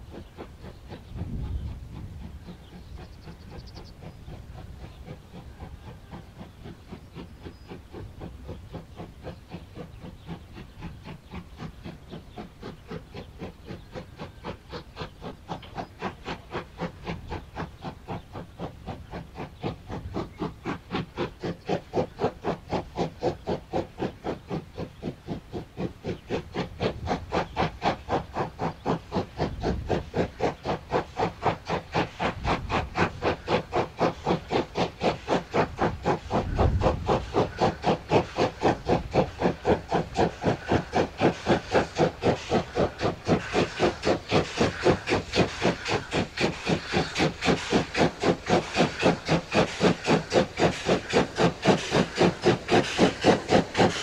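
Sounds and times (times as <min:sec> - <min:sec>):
steam locomotive exhaust chuffing: 0:00.0 - 0:54.0.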